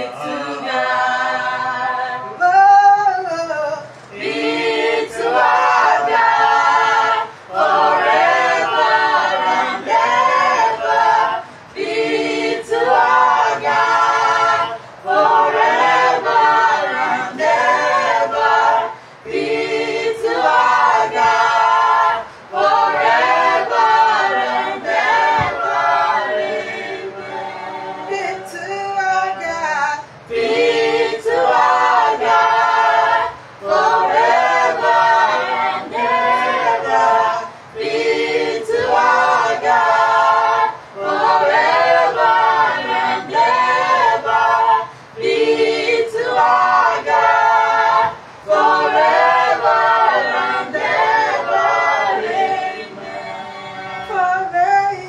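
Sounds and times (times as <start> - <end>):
group singing a cappella: 0.0 - 55.0.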